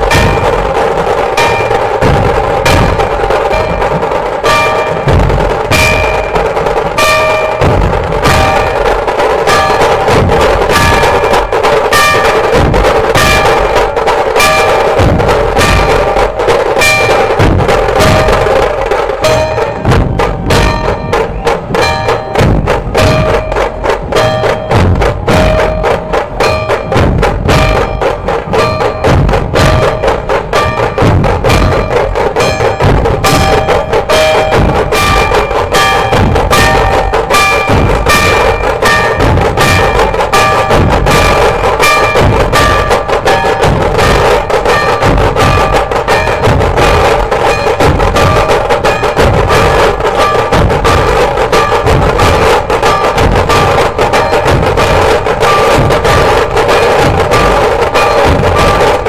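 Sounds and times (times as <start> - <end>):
deep dhol drum beats: 0.0 - 59.0
steady ringing tone: 0.0 - 59.0
tasha drums rapid stick strokes: 0.0 - 59.0.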